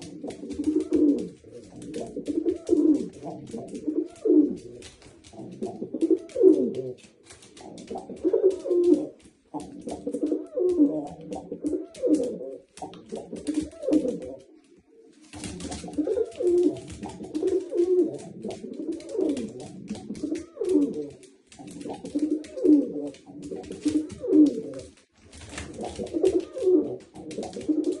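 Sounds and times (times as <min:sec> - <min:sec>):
pigeons cooing: 0:00.0 - 0:25.0, 0:25.6 - 0:28.0.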